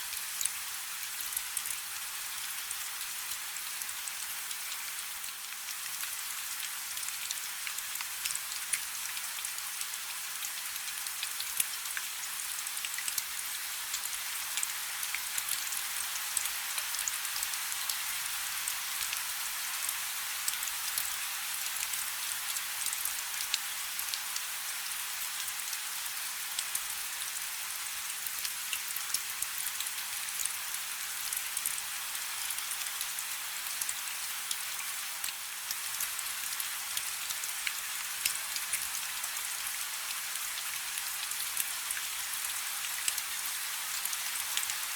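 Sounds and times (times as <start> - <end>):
rain falling on a river: 0.0 - 44.9.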